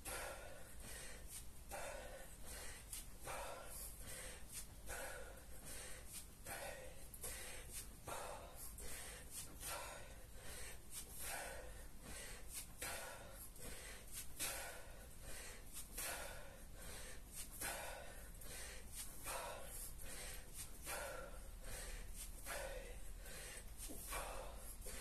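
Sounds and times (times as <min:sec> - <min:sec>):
man breathing forcefully: 0:00.0 - 0:25.0.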